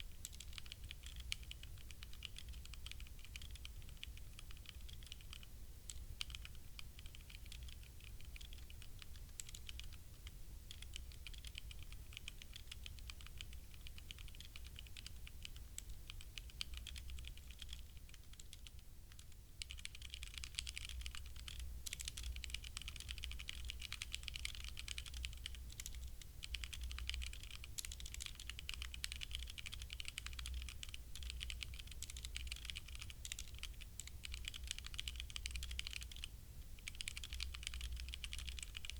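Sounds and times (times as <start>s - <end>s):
mechanical keyboard typing: 0.2s - 38.9s.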